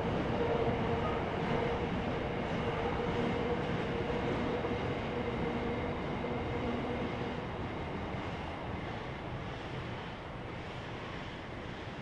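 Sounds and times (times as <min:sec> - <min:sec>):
freight train running past: 0:00.0 - 0:12.0.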